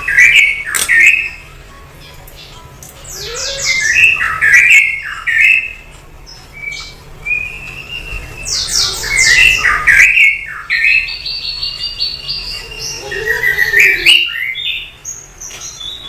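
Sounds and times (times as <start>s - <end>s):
bird squawking and chirping: 0.0s - 16.0s.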